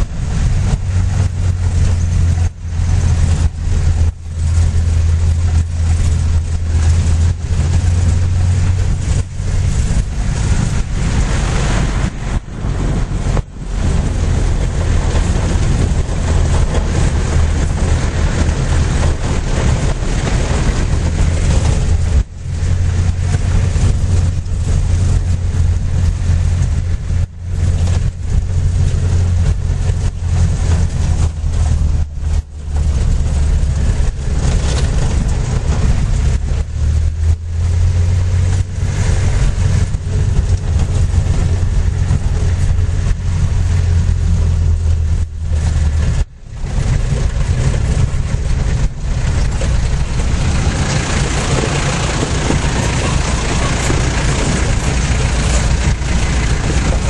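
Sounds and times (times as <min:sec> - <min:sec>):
road and rattle noise: 0:00.0 - 0:57.0
vehicle engine droning: 0:00.0 - 0:57.0.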